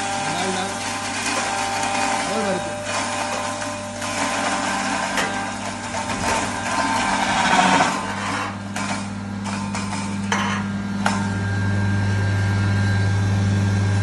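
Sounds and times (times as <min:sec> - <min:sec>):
grinder motor hum: 0:00.0 - 0:14.0.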